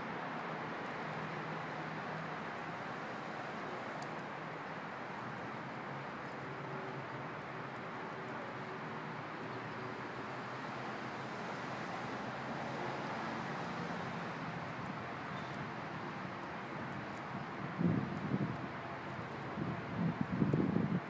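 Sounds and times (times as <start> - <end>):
urban background hum and hiss: 0.0 - 21.0.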